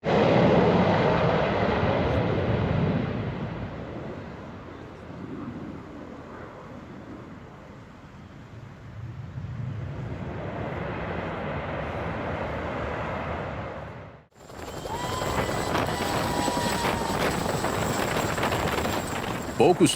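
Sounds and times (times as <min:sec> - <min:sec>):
helicopter rotor and turbine: 0:00.1 - 0:19.9.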